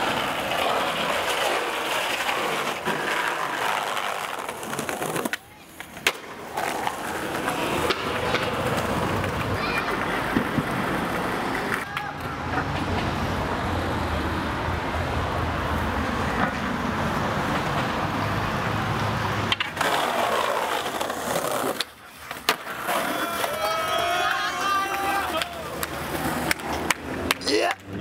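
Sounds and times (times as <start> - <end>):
skateboard wheels rolling on concrete: 0.0 - 28.0.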